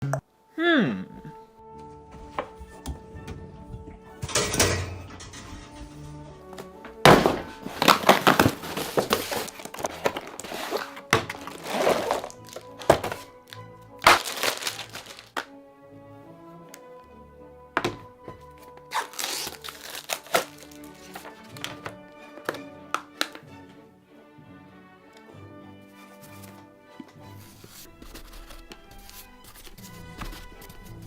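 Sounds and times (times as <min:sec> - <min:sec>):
background music with held tones: 0:00.0 - 0:31.0.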